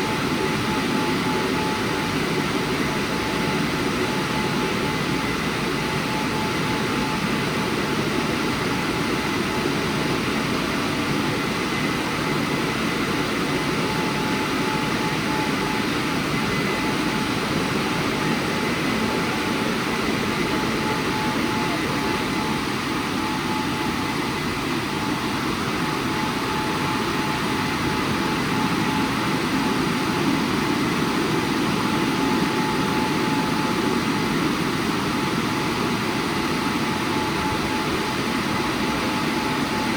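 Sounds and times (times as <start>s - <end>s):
thin constant whine: 0.0s - 39.9s.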